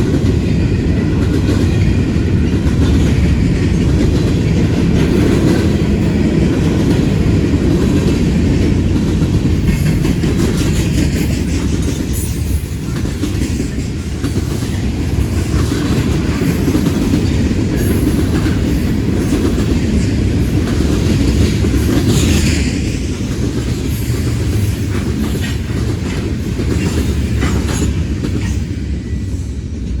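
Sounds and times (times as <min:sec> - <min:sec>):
heavy train rumble: 0:00.0 - 0:30.0.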